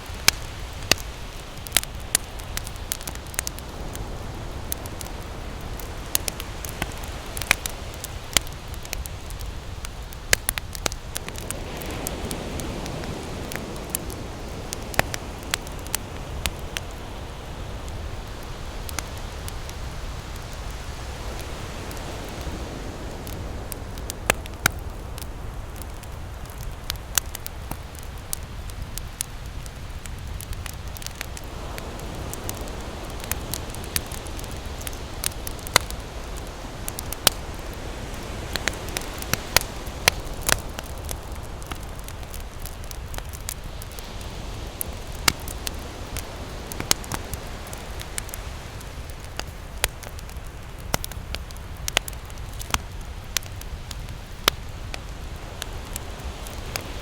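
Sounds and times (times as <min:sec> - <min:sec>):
campfire crackling and popping: 0:00.0 - 0:57.0
ocean surf: 0:00.0 - 0:57.0.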